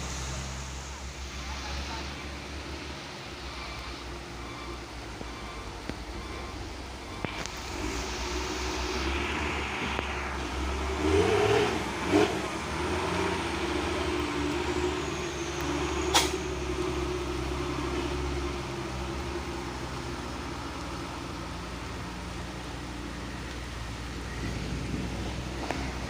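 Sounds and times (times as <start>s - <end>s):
truck engine running: 0.0s - 26.0s.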